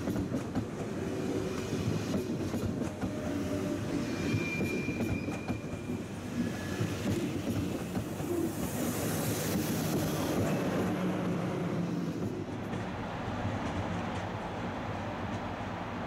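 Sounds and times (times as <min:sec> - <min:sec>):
high-speed train passing: 0:00.0 - 0:16.0.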